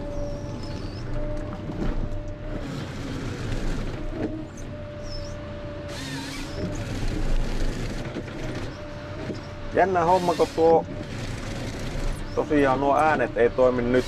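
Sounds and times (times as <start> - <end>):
harvester engine drone: 0.0 - 14.0
hydraulic whine: 0.0 - 14.0
harvester head cutting wood: 0.8 - 14.0.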